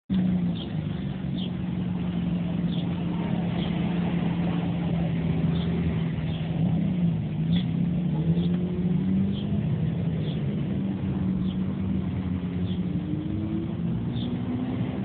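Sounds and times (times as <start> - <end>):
steady motor hum: 0.1 - 14.6
noisy rush: 0.1 - 15.0.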